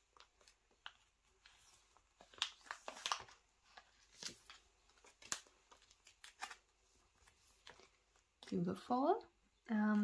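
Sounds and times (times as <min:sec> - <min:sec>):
plastic card sleeves rustling: 0:00.0 - 0:08.6.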